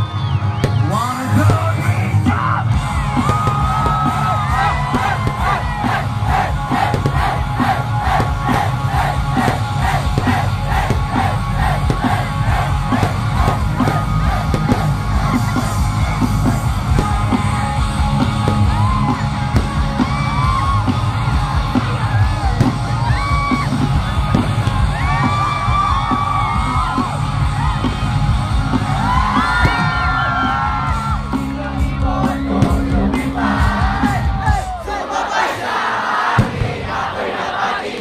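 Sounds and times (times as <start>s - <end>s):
crowd yelling and whooping: 0.0s - 38.0s
live rock band playing: 0.8s - 34.7s
voices singing and shouting: 0.8s - 38.0s.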